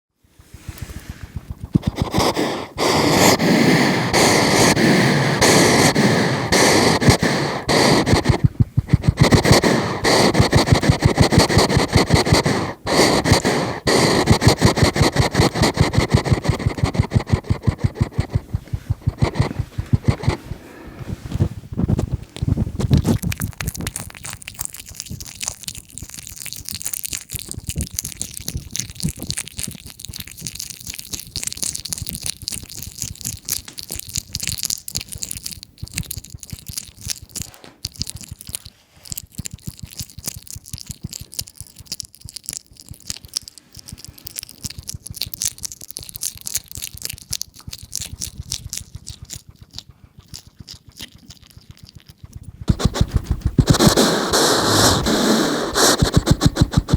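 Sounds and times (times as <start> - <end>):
hedgehog chewing and crunching: 0.6 - 56.9.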